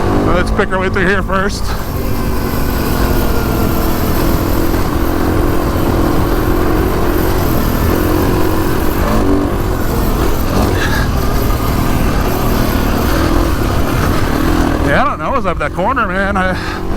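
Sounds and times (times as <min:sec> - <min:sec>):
dirt bike engine running: 0:00.0 - 0:16.9
heavy low rumble: 0:00.0 - 0:16.9.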